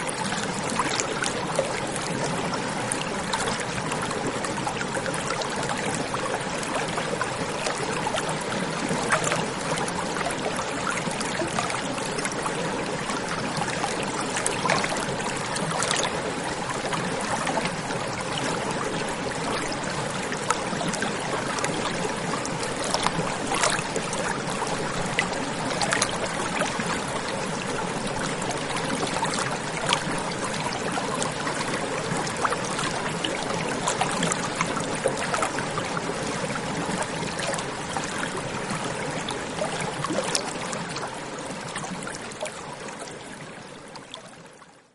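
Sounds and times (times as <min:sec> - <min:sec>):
stream of running water: 0:00.0 - 0:44.9
water splashes and gurgles: 0:00.0 - 0:44.9.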